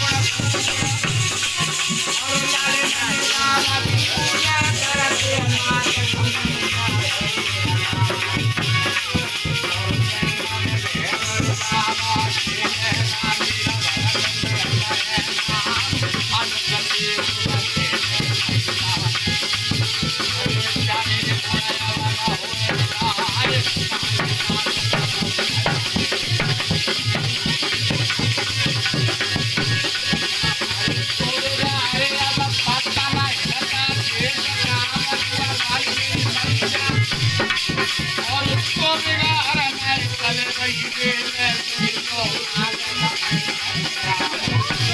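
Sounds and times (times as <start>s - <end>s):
fast drum beat: 0.0s - 44.9s
jingling rattle percussion: 0.0s - 44.9s.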